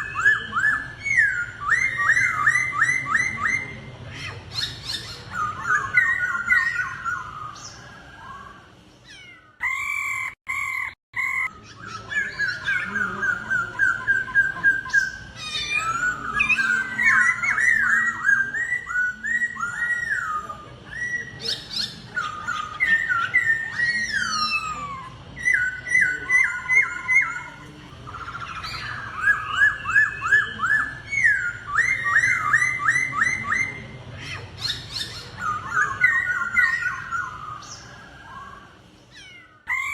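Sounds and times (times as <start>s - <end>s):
birds singing whistled phrases: 0.0s - 39.9s.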